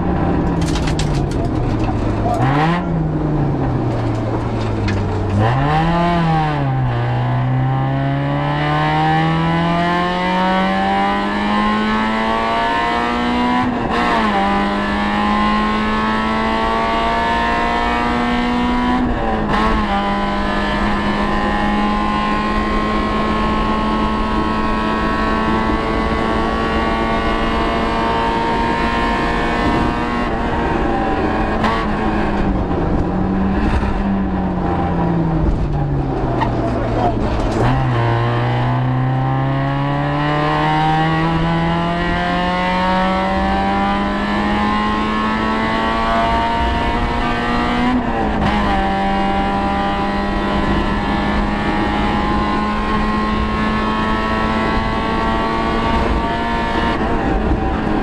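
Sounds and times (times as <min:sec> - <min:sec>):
car engine revving hard: 0:01.9 - 0:58.0.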